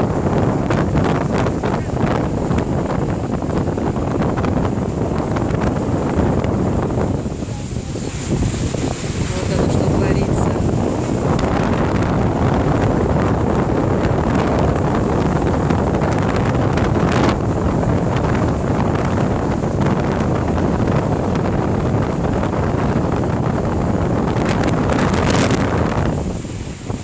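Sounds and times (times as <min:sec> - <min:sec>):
storm wind buffeting microphone: 0:00.0 - 0:27.0
stormy sea surf: 0:00.0 - 0:27.0.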